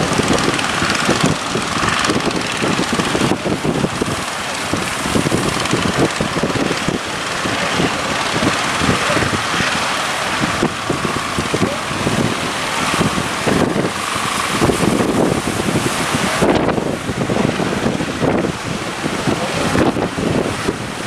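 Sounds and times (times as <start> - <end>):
sea and surf rushing: 0.0 - 21.0
wind buffeting microphone: 0.0 - 21.0.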